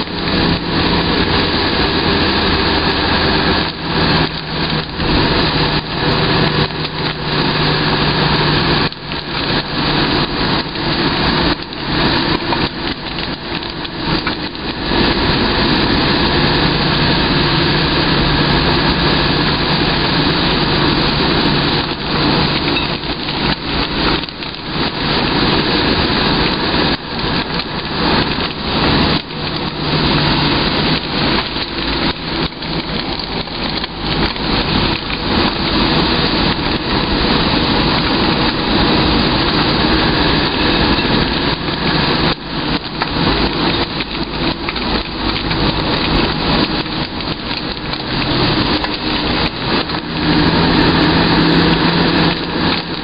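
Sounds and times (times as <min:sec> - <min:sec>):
vehicle engine hum: 0:00.0 - 0:53.0
wet road and rain rushing: 0:00.0 - 0:53.0.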